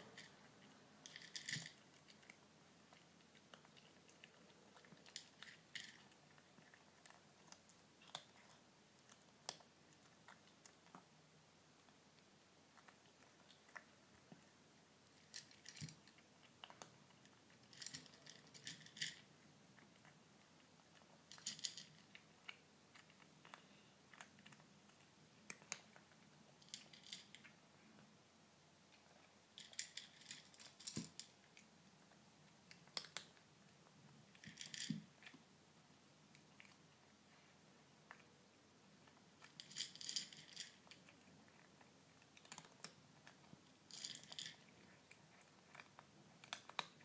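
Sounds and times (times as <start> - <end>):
kitten crunching dry kibble: 0.0 - 28.0, 28.8 - 35.6, 36.2 - 47.0.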